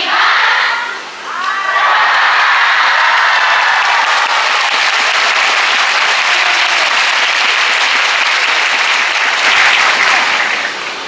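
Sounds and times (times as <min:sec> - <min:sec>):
crowd clapping: 0:01.8 - 0:10.9.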